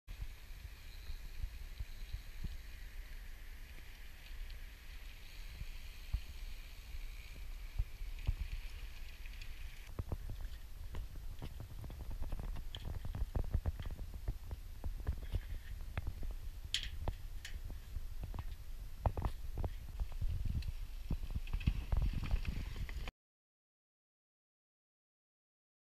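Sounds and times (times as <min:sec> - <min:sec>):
steady hiss: 0:00.1 - 0:23.0
wind rumbling on microphone: 0:00.1 - 0:23.1.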